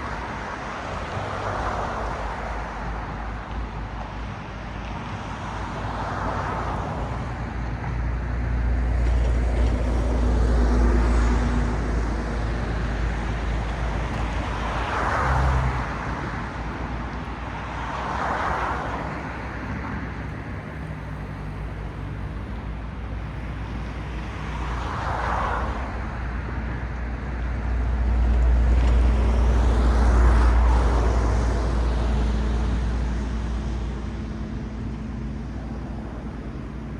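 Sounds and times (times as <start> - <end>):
cars passing: 0.0 - 36.9.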